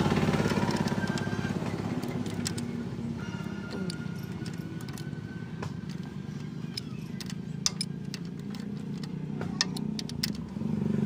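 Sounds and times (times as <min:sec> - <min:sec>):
metal tools clicking: 0:00.3 - 0:10.6.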